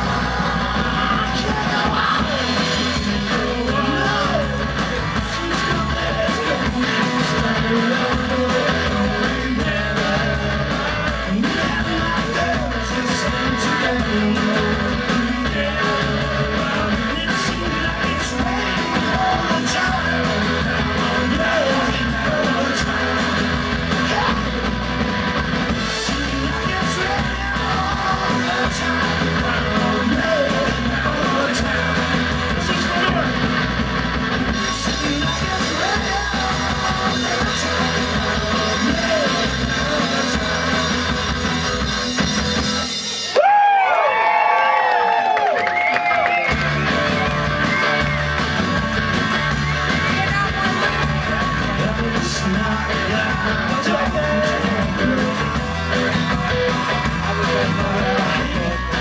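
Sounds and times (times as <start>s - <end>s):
lead vocalist singing: 0.0s - 24.7s, 25.7s - 33.4s, 34.5s - 41.6s, 49.9s - 59.0s
drum kit with cymbals: 0.0s - 43.6s, 46.4s - 59.0s
live rock band playing: 0.0s - 59.0s.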